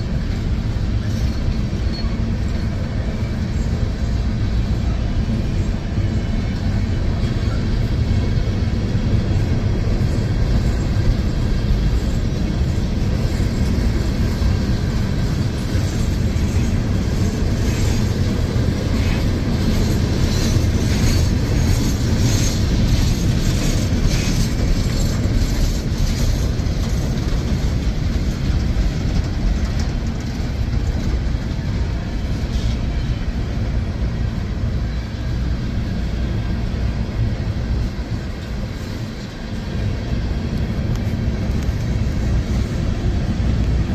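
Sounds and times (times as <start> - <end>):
steel wheels rumbling on rail: 0.0 - 43.9.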